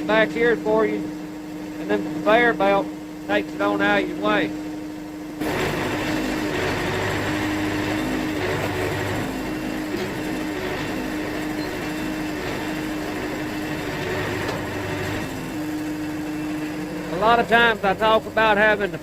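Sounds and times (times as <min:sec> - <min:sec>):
sawmill humming: 0:00.0 - 0:19.0.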